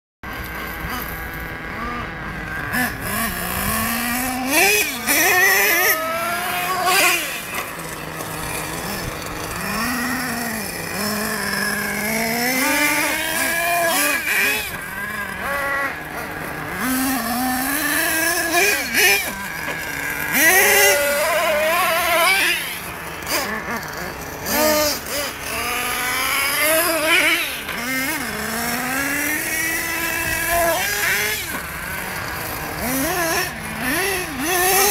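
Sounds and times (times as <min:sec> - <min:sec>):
model truck engine revving: 0:00.3 - 0:34.9.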